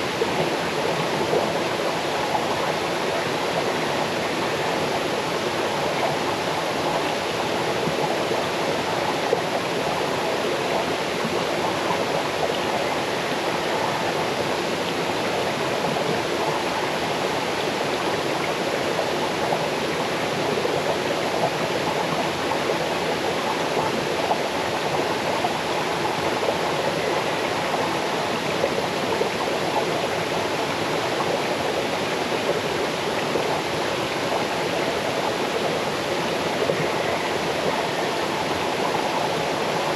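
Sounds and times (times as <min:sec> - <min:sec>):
waterfall over stones: 0:00.0 - 0:39.9.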